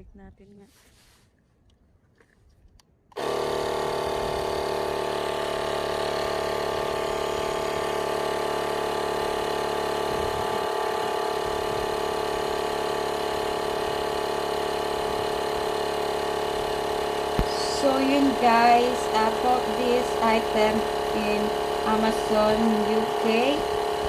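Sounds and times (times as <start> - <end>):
air compressor running: 3.2 - 24.0.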